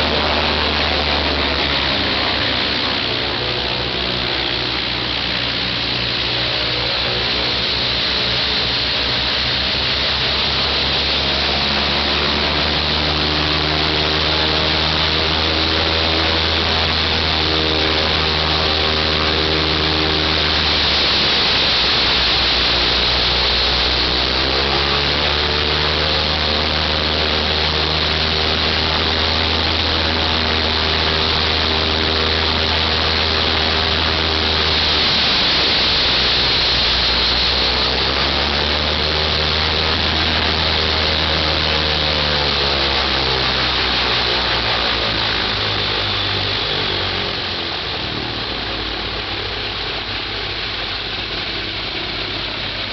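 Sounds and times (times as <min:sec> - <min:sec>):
radial aircraft engine running: 0:00.0 - 0:52.9.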